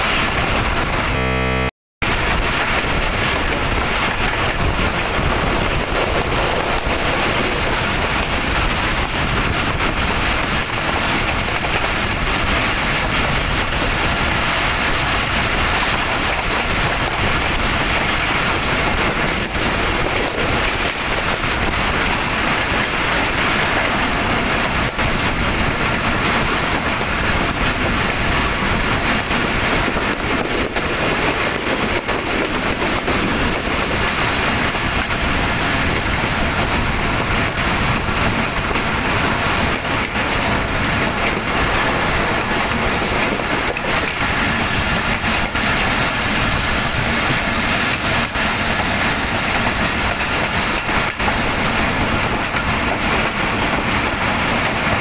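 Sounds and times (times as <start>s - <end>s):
train wheels rushing on rails: 0.0s - 55.0s
wind: 0.0s - 55.0s.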